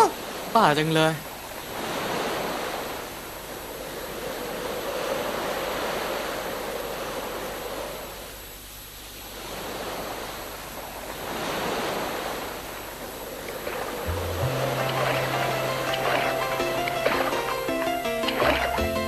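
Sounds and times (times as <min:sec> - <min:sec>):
ocean waves washing: 0:00.0 - 0:08.3, 0:09.3 - 0:19.0.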